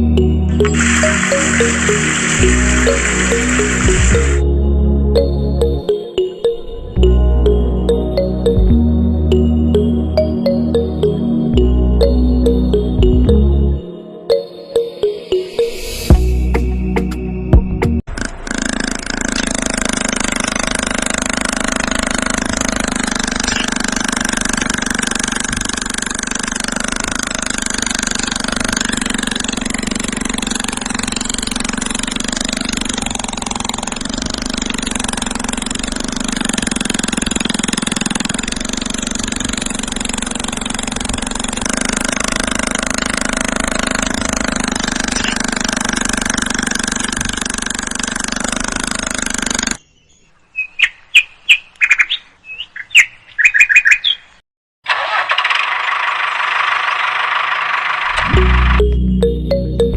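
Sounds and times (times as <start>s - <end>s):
engine droning hum: 0.0s - 17.5s, 18.1s - 49.9s, 55.1s - 59.9s.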